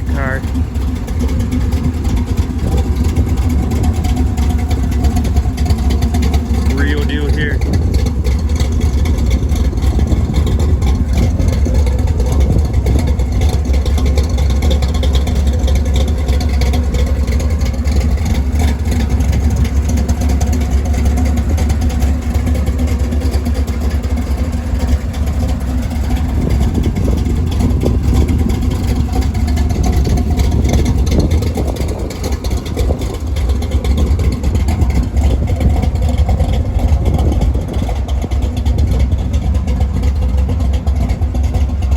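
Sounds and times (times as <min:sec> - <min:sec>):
loud car engine running: 0:00.0 - 0:41.9.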